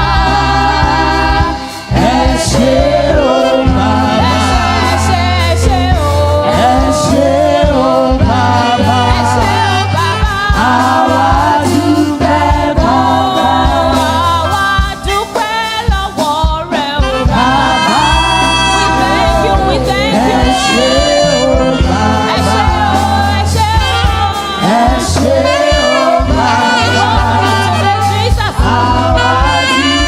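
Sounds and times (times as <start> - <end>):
choir singing: 0.0 - 14.8, 17.0 - 30.0
bass guitar: 0.0 - 30.0
drums: 0.0 - 30.0.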